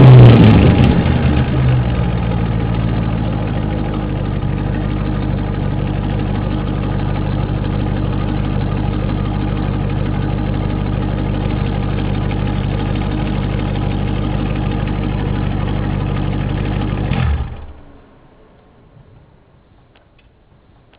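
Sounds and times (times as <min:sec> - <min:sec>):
car engine idling loudly: 0:00.0 - 0:18.5.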